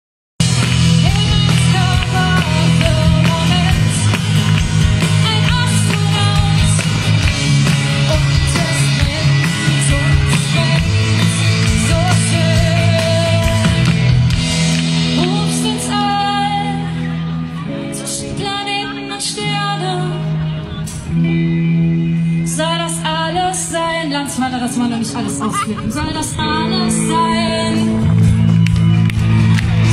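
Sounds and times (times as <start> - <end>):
live band with singer: 0.4 - 29.9.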